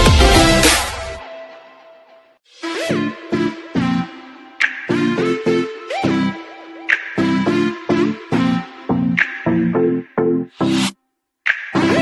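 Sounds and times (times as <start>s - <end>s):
electronic dance music: 0.0s - 1.3s, 2.6s - 12.0s.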